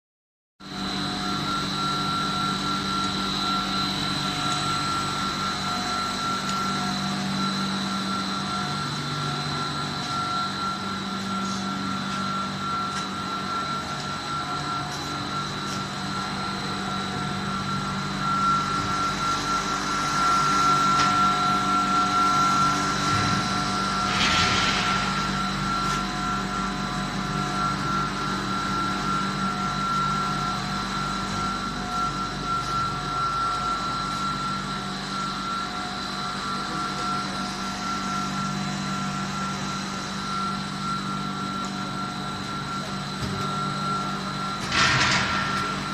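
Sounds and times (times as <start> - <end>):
machinery hum with motor whine: 0.6 - 45.9.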